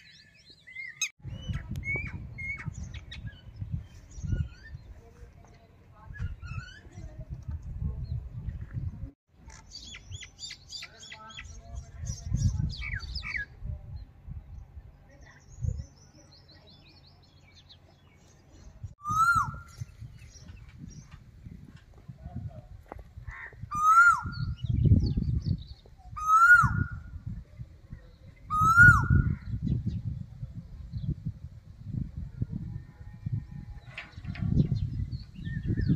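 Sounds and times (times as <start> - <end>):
small birds chirping: 0.0 - 35.9
low rumble of wind: 0.1 - 35.9.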